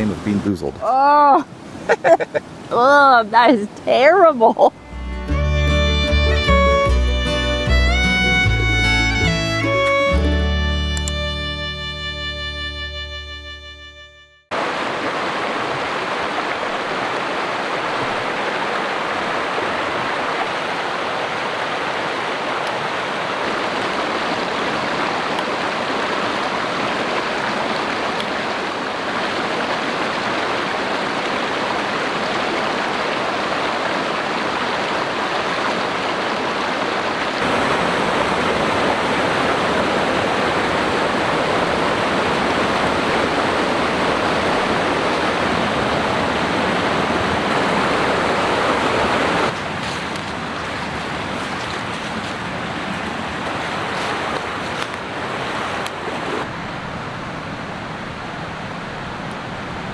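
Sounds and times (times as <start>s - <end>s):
creek rushing over boulders: 0.0s - 10.2s, 14.5s - 59.9s.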